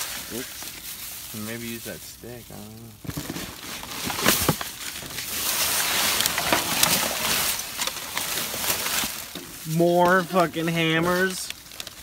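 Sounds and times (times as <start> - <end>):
sharp crackles: 0.0 - 12.0
trash rustling and crinkling: 0.0 - 12.0.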